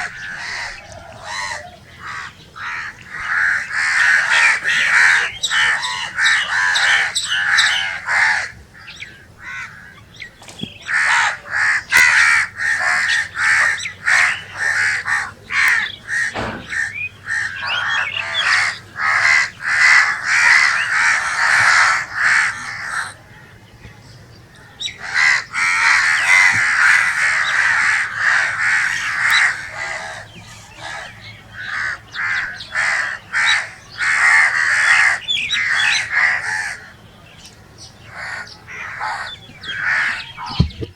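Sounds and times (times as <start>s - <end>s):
crows cawing: 0.0s - 23.8s, 24.5s - 40.8s.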